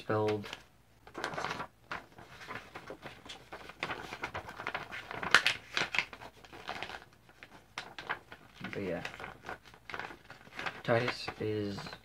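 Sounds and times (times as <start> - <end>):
paper rustling and crinkling: 0.1 - 12.0.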